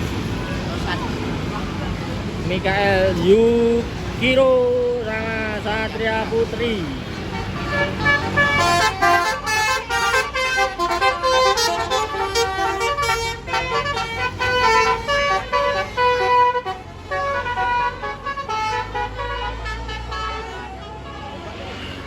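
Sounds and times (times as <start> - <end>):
bus engine running: 0.0 - 22.0
multi-tone bus horn melody: 2.8 - 22.0.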